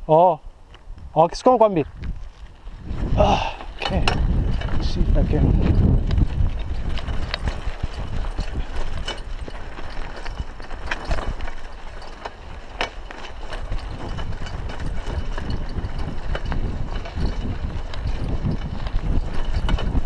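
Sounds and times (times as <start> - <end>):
bike tyres rumbling on gravel: 0.0 - 20.0
bike clicks and rattles: 0.6 - 20.0.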